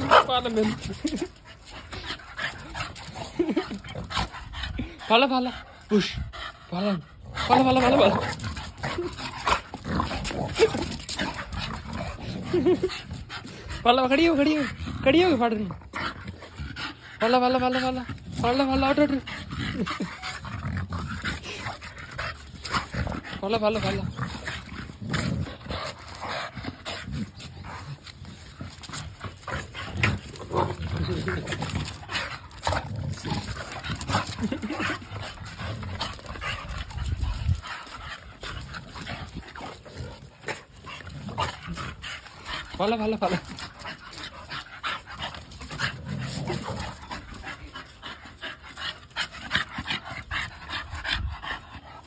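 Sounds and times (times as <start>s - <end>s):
dogs breathing: 0.0s - 52.0s
dogs vocalizing while wrestling: 0.0s - 52.0s.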